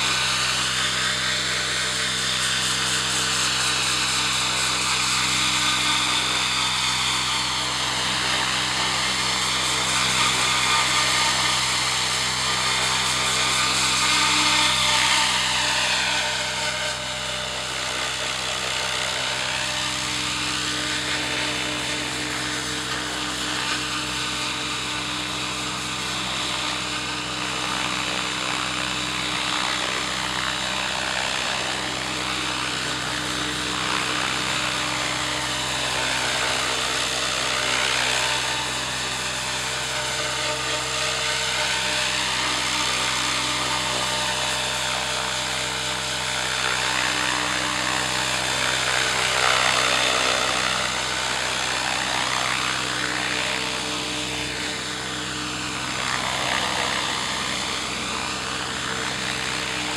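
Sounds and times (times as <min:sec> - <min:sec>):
model helicopter rotor whine: 0:00.0 - 0:59.9.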